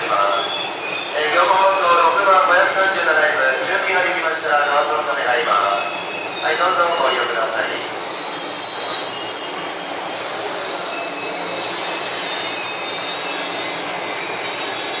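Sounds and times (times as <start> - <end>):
train brakes squealing: 0.2 - 15.0.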